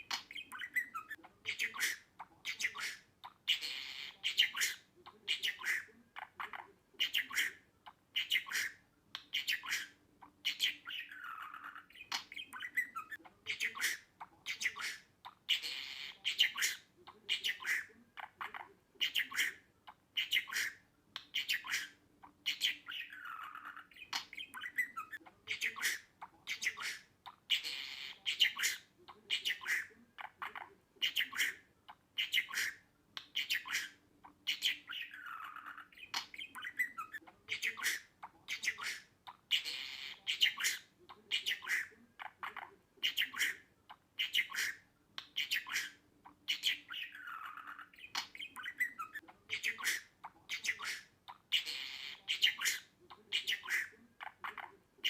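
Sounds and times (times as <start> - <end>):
budgerigar chirping and squawking: 0.0 - 55.0.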